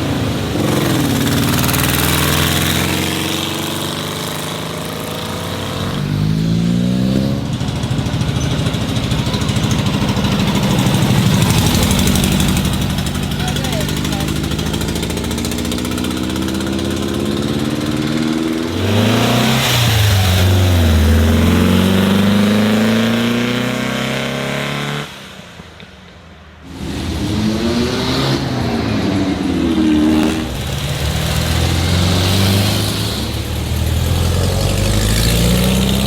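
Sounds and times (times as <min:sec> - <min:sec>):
car engines revving past: 0:00.0 - 0:25.8, 0:26.6 - 0:36.0.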